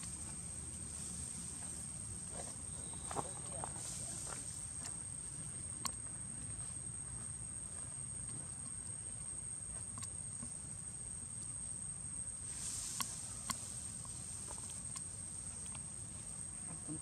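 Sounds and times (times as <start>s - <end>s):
high-pitched insect trill: 0.0s - 17.0s
low outdoor rumble: 0.0s - 17.0s.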